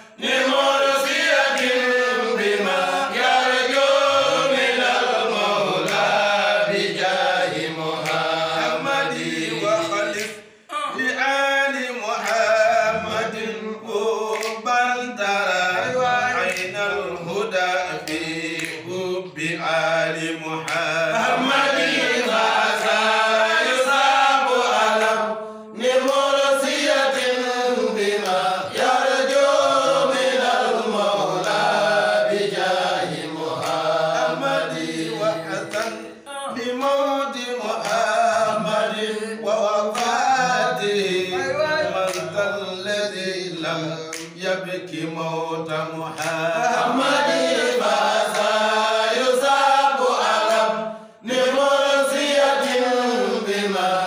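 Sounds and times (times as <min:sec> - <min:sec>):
men chanting unaccompanied: 0:00.0 - 0:54.0.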